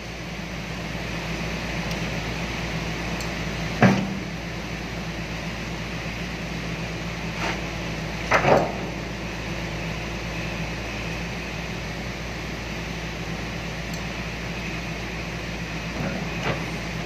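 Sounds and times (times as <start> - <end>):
excavator engine and hydraulics humming: 0.0 - 17.0.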